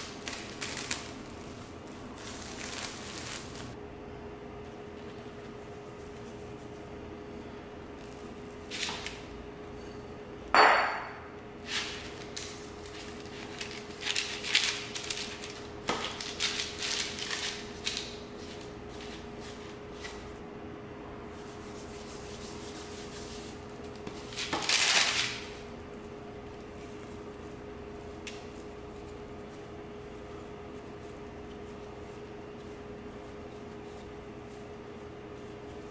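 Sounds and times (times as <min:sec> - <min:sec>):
dough rustling on paper: 0:00.0 - 0:03.8, 0:04.6 - 0:09.4, 0:11.6 - 0:20.4, 0:21.2 - 0:35.9
steady hum: 0:00.0 - 0:35.9.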